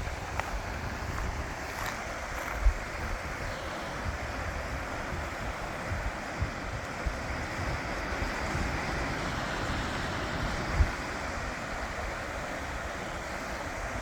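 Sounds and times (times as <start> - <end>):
creek water rushing: 0.0 - 14.0
wind buffeting microphone: 0.0 - 14.0.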